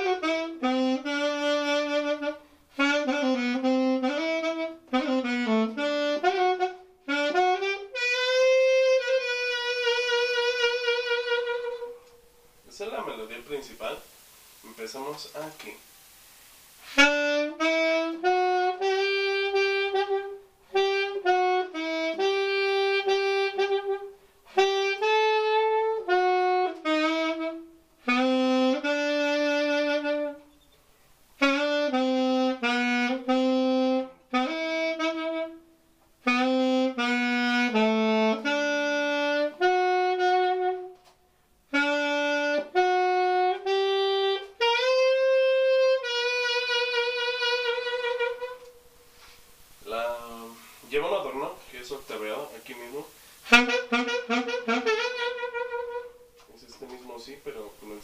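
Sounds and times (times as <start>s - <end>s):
solo saxophone melody: 0.0s - 30.6s, 31.3s - 58.0s.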